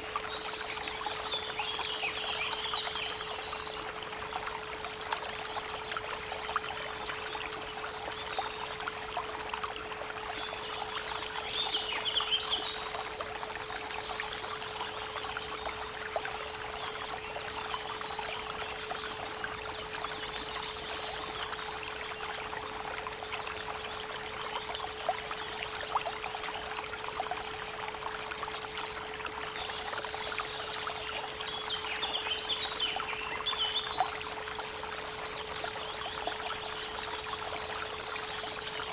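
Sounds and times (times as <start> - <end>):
creek babbling: 0.0 - 38.9
songbirds chirping: 0.0 - 38.9.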